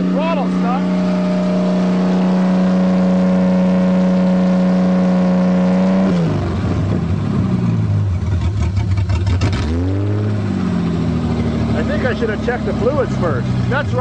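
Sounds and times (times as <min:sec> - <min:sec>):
car engine revving and idling roughly: 0:00.0 - 0:14.0.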